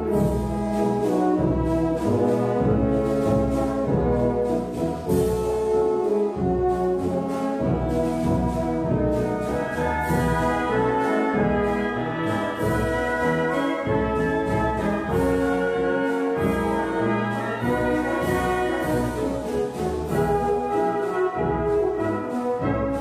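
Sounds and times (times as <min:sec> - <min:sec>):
orchestral brass chords: 0:00.0 - 0:23.0.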